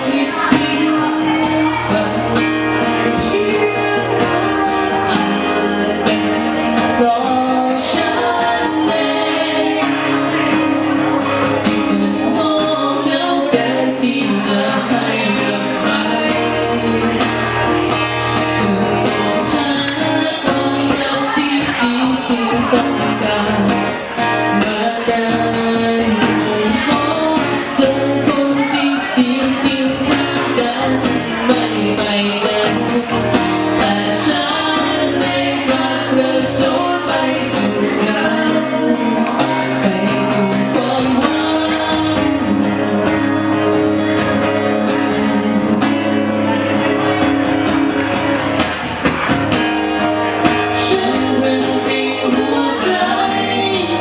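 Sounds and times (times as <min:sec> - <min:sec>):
band playing a song: 0:00.0 - 0:54.0
guitar: 0:00.0 - 0:54.0
person singing: 0:00.0 - 0:54.0.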